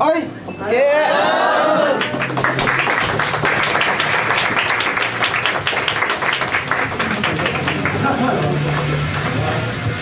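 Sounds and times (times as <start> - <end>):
crowd clapping: 1.6 - 9.8.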